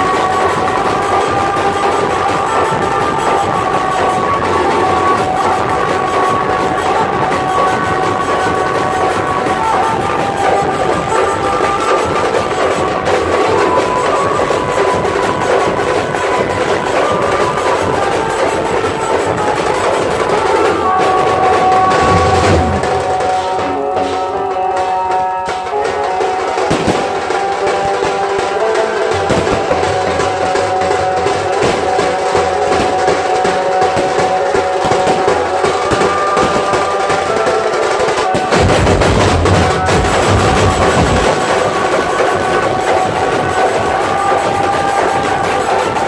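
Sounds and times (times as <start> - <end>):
large drums beaten: 0.0 - 46.0
melody over loudspeakers: 0.0 - 46.0.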